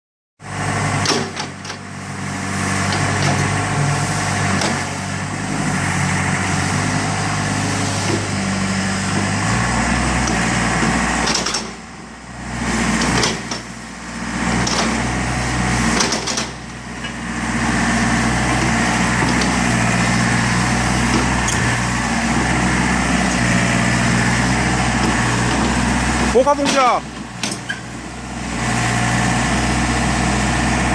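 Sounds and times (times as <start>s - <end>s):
excavator diesel engine running: 0.4s - 30.9s.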